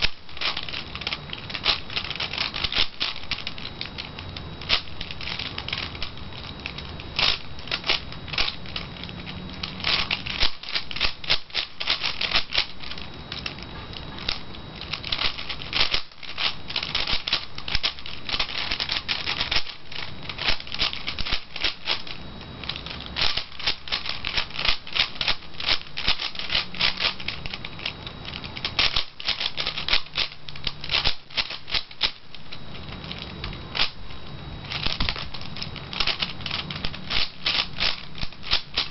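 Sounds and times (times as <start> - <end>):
puzzle cube clicking under finger turns: 0.0 - 32.2, 34.7 - 38.9.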